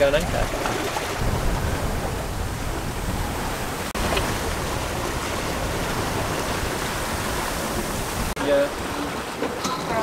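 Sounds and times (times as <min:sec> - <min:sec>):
wind noise: 0:00.0 - 0:08.9
water rushing past a hull: 0:00.0 - 0:10.0.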